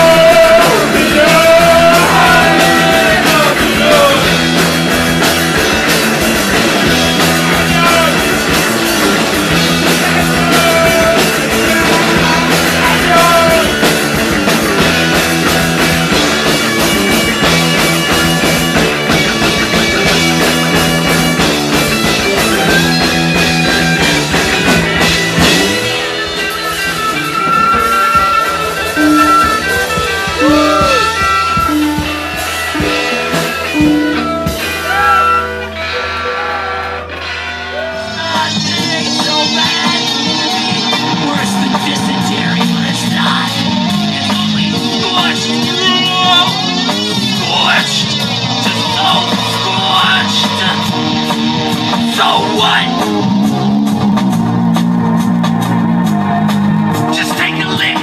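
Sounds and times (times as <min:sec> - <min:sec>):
drum kit: 0:00.0 - 0:58.0
electric guitars: 0:00.0 - 0:58.0
keyboard: 0:00.0 - 0:58.0.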